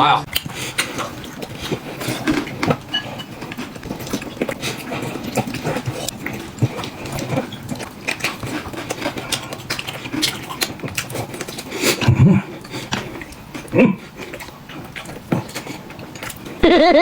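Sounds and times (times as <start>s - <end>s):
person eating with slurping and chewing: 0.3s - 17.0s.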